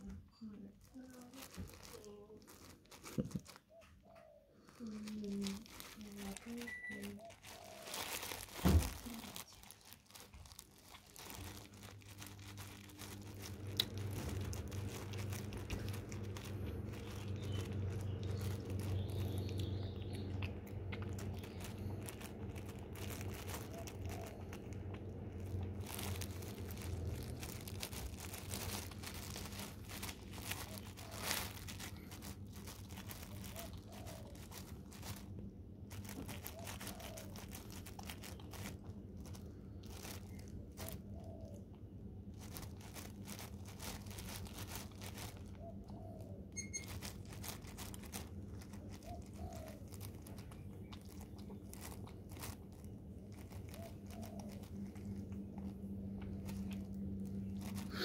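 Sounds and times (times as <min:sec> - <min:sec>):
cat chewing and crunching food: 0:00.0 - 0:58.0
plastic bag crinkling: 0:00.0 - 0:58.0
steady low hum: 0:04.3 - 0:58.0.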